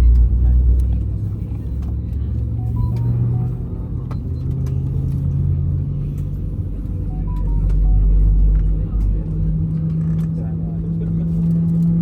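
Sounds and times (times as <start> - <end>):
aircraft cabin engine rumble: 0.0 - 11.8.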